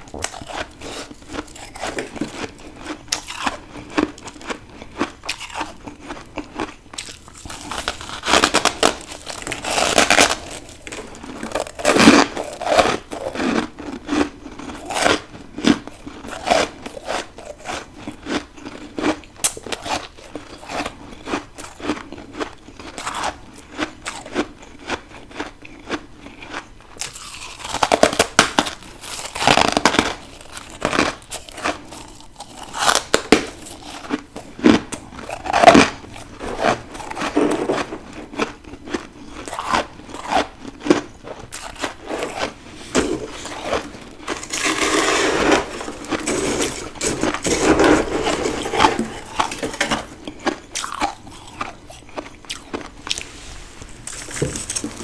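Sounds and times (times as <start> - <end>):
frost being chewed: 0.0 - 55.0.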